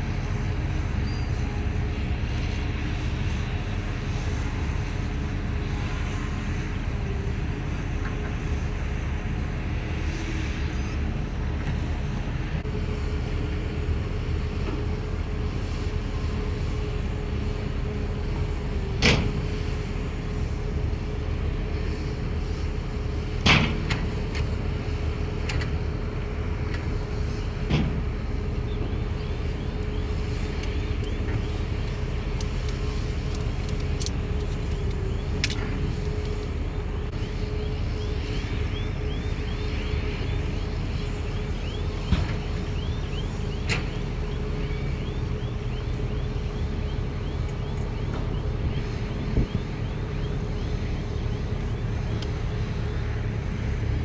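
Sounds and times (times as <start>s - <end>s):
heavy diesel machinery rumbling: 0.0s - 54.0s.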